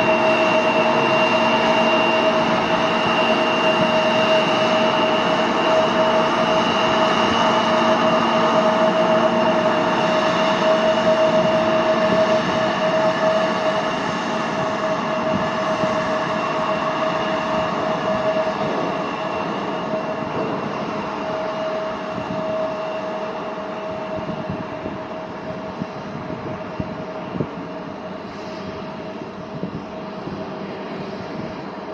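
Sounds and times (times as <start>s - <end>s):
jet engines whining: 0.0s - 31.9s.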